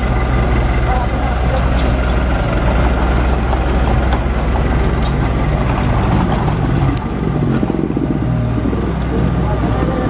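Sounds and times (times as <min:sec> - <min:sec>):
bulldozer diesel engine running: 0:00.0 - 0:10.0.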